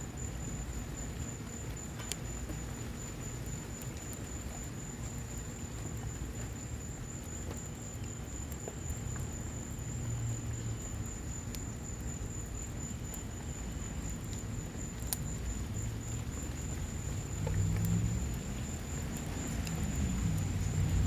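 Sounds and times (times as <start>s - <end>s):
rain pattering: 0.0s - 21.0s
wood fire crackling: 0.3s - 21.0s.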